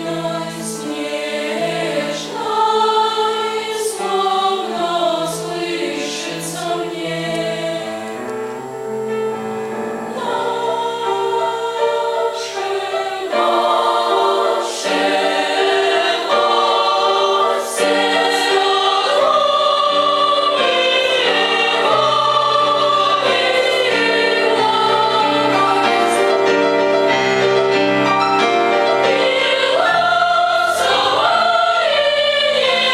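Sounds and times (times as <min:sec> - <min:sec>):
children's choir singing: 0:00.0 - 0:32.9.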